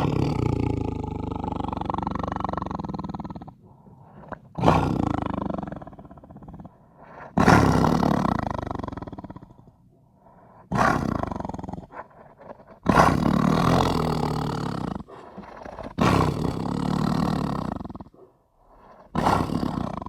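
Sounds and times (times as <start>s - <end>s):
tiger roaring: 0.0s - 20.0s.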